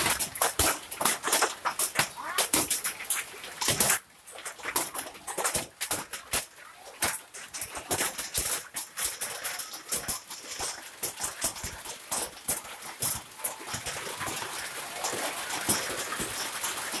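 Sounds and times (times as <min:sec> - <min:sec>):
hailstones clacking on road: 0:00.0 - 0:17.0
rain hiss: 0:00.0 - 0:17.0.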